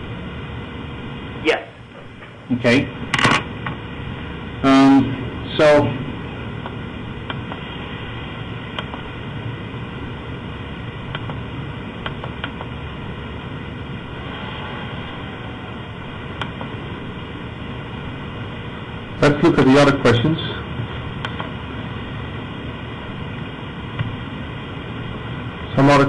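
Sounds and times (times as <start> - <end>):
audio line hiss and hum: 0.0 - 26.0.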